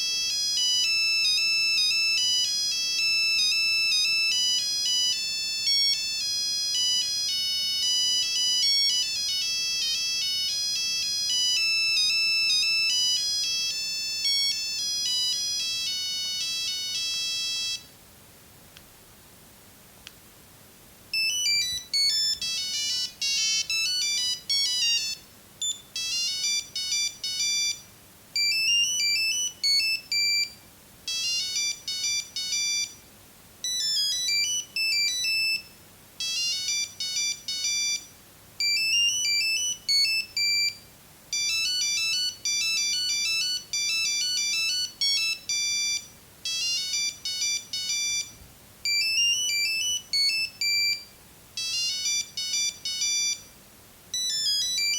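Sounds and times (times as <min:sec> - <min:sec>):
phone ringtone beeping melody: 0:00.0 - 0:17.9, 0:21.2 - 0:33.0, 0:33.6 - 0:53.5, 0:54.1 - 0:54.9.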